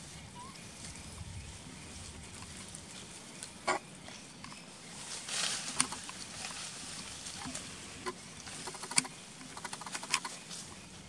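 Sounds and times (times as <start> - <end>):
rustle of dry leaves: 0.0 - 11.0.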